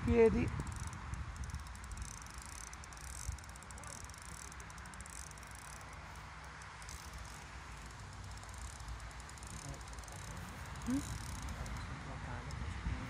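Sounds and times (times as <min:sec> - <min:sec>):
fishing reel clicking: 0:00.0 - 0:12.7.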